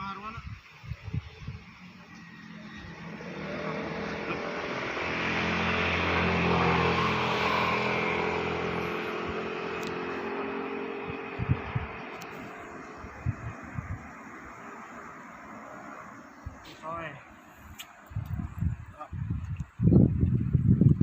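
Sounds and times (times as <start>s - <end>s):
passing vehicle engine and road noise: 0.0s - 21.0s.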